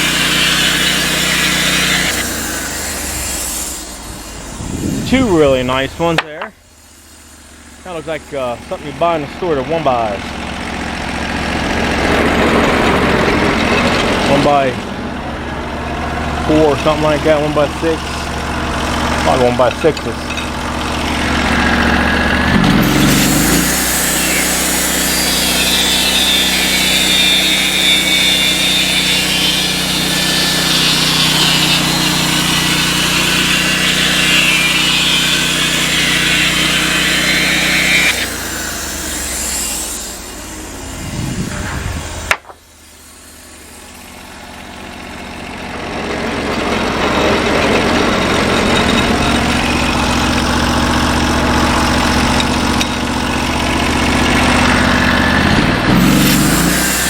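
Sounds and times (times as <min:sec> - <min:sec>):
engine hum: 0:00.0 - 0:57.0
saw blade whine: 0:00.0 - 0:57.0.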